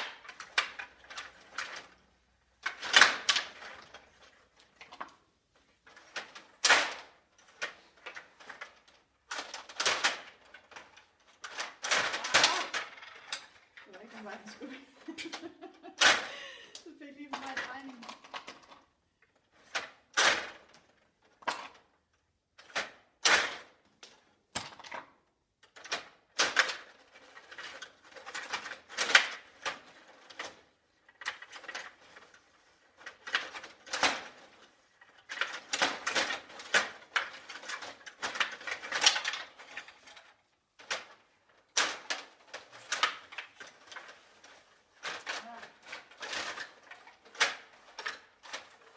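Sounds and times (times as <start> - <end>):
table hockey rods clicking: 0.0 - 2.0, 2.6 - 15.4, 22.6 - 48.9.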